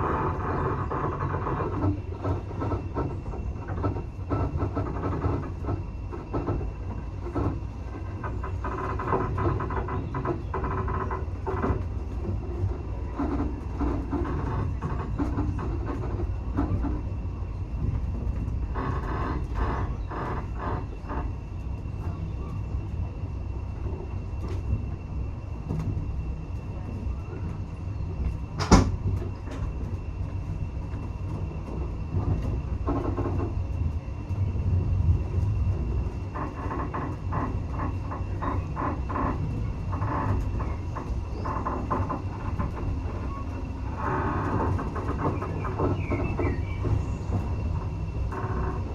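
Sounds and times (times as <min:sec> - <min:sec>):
railway carriage rumbling: 0:00.0 - 0:48.9
wheels clickety-clack on rail joints: 0:00.0 - 0:48.9.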